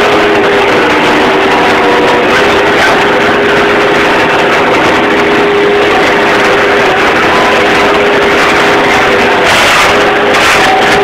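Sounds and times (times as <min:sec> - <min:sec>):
loader engine running: 0:00.0 - 0:11.0
steady whine: 0:00.0 - 0:11.0.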